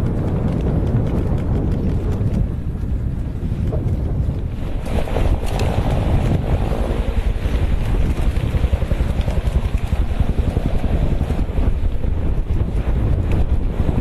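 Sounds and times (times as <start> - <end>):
grass fire burning: 0.0 - 14.0
wind buffeting microphone: 0.0 - 14.0.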